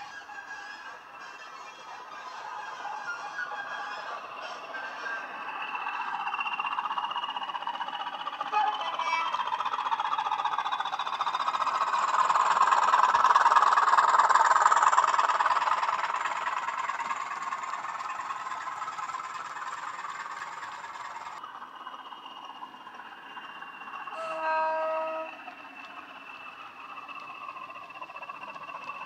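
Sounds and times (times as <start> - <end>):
diesel engine sound from small speaker: 0.0 - 29.0
model train running on track: 0.0 - 29.0.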